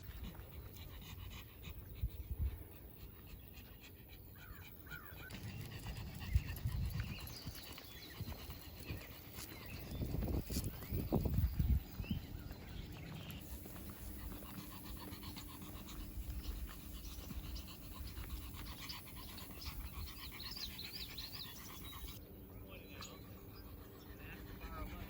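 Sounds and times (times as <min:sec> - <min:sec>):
dog panting: 0:00.0 - 0:22.2, 0:23.0 - 0:25.0.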